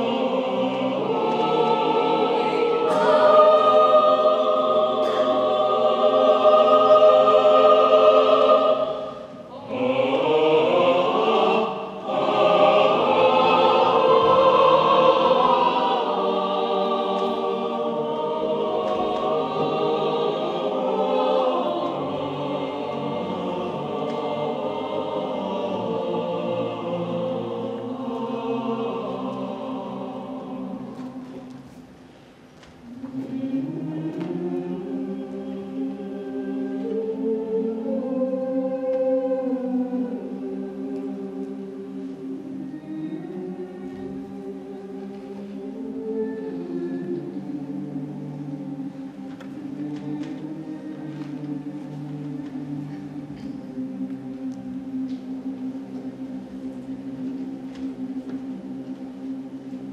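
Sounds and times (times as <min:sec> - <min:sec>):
choir singing sustained chords: 0:00.0 - 0:59.9.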